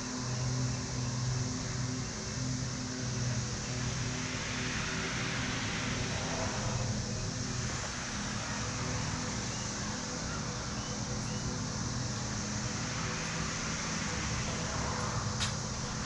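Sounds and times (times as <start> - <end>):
steady low hum and hiss: 0.0 - 16.0.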